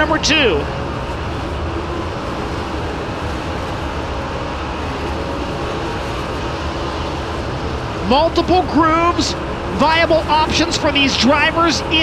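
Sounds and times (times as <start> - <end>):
racing engines running: 0.0 - 12.0.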